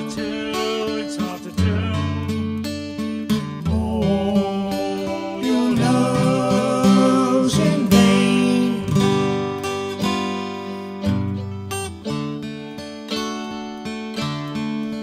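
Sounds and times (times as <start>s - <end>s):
acoustic guitar slow blues: 0.0s - 15.0s.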